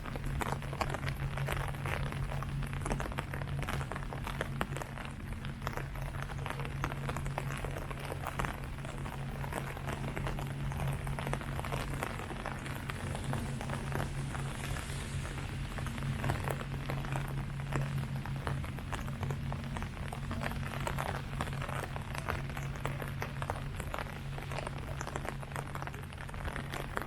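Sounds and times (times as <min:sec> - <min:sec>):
rain falling on leaves: 0:00.0 - 0:27.0
steady low hum: 0:00.0 - 0:27.0.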